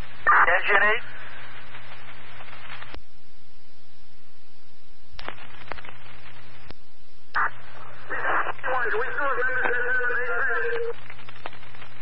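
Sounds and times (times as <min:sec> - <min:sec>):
radio static hiss: 0:00.0 - 0:03.0, 0:05.2 - 0:12.0
low hum: 0:00.0 - 0:12.0.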